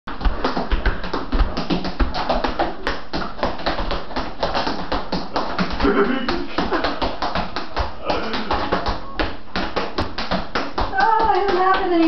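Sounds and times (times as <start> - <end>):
tap shoes on tile floor: 0.1 - 12.0.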